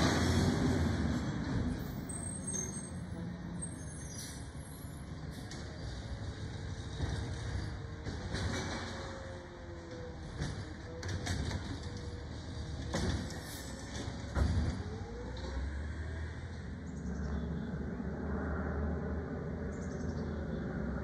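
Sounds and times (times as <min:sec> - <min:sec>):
garbage truck engine rumbling: 0:00.0 - 0:19.8.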